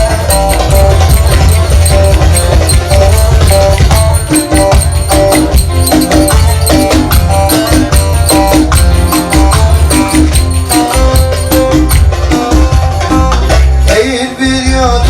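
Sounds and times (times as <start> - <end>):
finger cymbals jingling: 0.0 - 12.2
folk dance melody: 0.0 - 15.0
heavy drum beat: 0.0 - 15.0.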